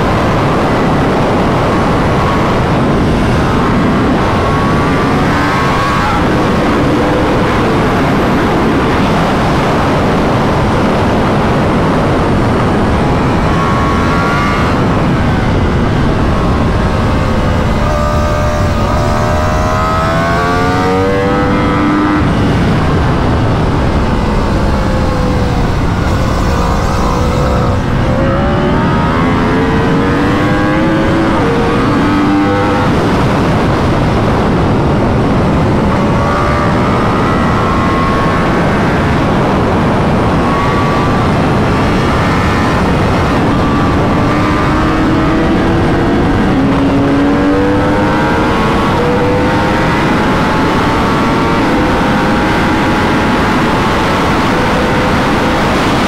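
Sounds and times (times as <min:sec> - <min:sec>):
motorcycle engine accelerating and shifting: 0:00.0 - 0:56.0
wind rush on microphone: 0:00.0 - 0:56.0.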